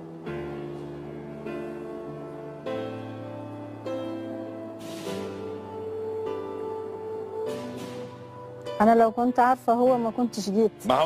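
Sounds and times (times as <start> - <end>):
slow music of held chords: 0.0 - 11.0.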